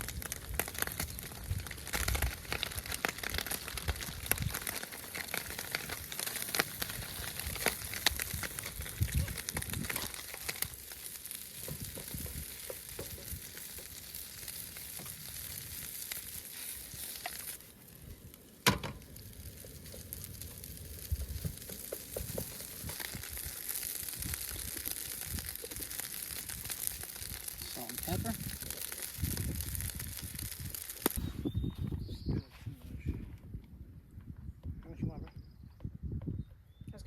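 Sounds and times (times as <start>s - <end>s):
steak sizzling in a pan: 0.0s - 31.2s.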